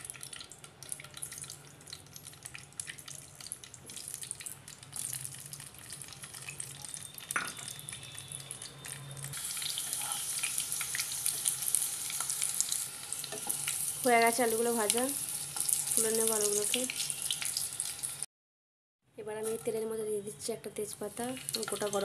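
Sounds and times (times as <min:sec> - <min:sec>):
potatoes sizzling in hot oil: 0:00.0 - 0:08.7, 0:09.3 - 0:18.3, 0:21.0 - 0:22.0.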